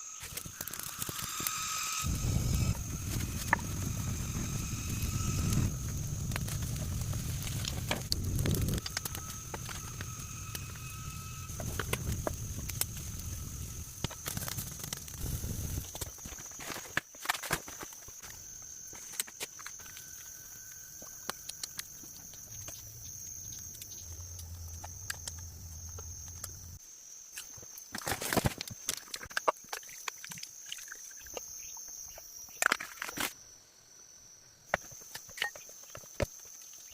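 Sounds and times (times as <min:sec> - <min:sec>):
high insect drone: 0:00.0 - 0:36.9.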